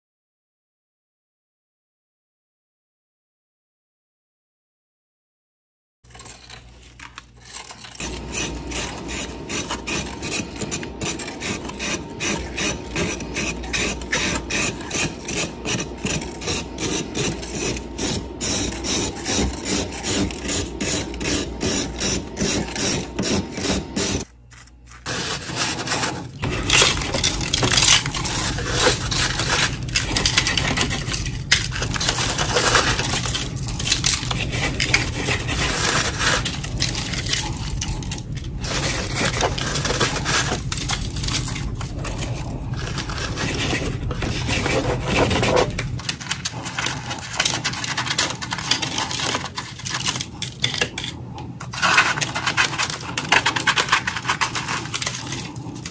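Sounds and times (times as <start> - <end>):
frost scraping rasps: 6.1 - 55.9.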